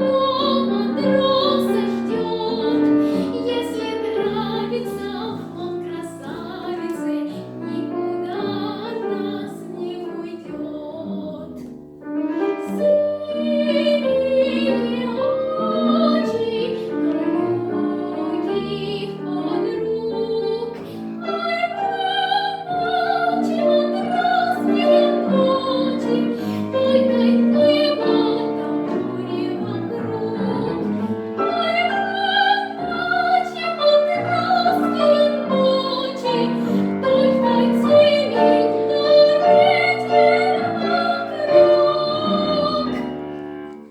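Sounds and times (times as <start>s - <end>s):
girl singing classical style: 0.0s - 43.9s
piano accompaniment: 0.0s - 43.9s.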